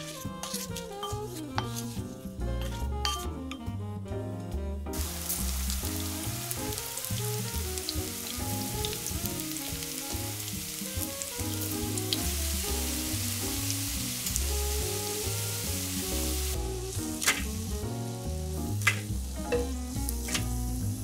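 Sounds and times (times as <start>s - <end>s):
food sizzling in oil: 0.0s - 2.1s, 5.0s - 21.0s.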